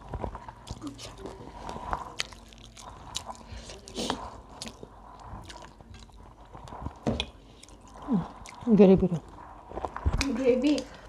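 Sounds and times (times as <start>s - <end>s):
fingers squishing food: 0.0s - 11.0s
people chewing and smacking: 0.0s - 11.0s.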